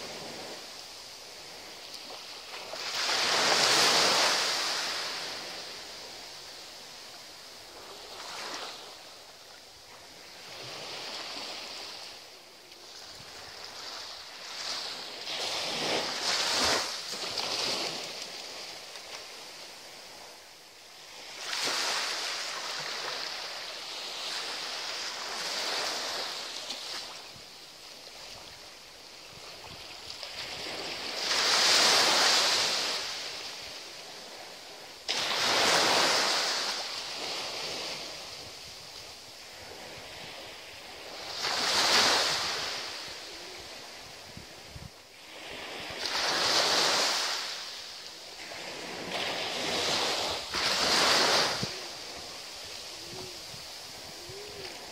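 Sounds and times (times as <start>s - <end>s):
small waves breaking on beach: 0.0s - 54.9s.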